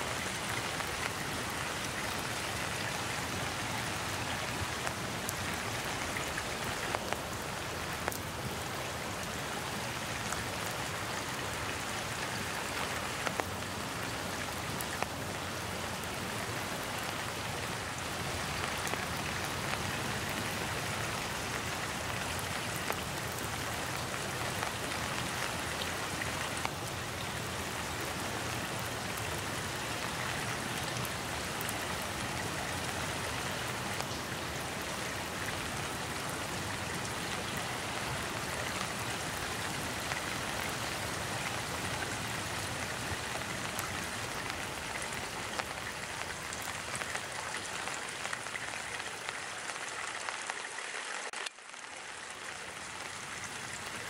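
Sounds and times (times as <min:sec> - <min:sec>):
steady rain falling: 0:00.0 - 0:54.0
stream trickling: 0:00.0 - 0:54.0.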